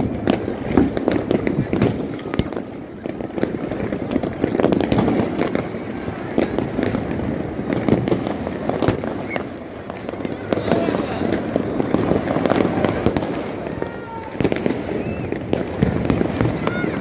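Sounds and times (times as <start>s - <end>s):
firecracker bangs: 0.0s - 17.0s
fireworks crackling and popping: 0.0s - 17.0s.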